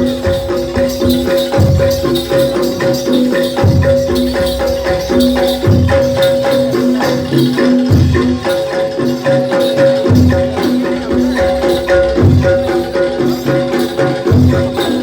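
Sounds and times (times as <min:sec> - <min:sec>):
deep drum beat: 0:00.0 - 0:09.1, 0:09.8 - 0:15.0
metallophones struck rhythmically: 0:00.0 - 0:15.0.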